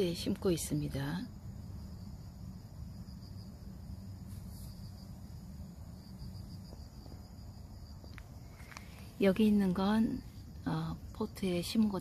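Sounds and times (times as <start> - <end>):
crickets trilling: 0.0 - 12.0
low steady rumble: 0.0 - 12.0.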